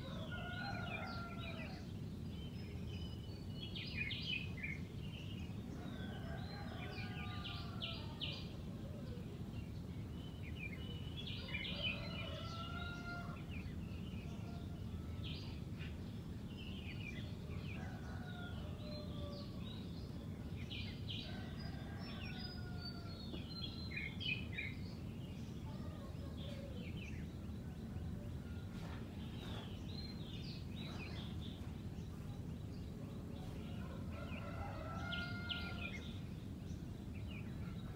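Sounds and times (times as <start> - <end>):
low background noise: 0.0 - 37.9.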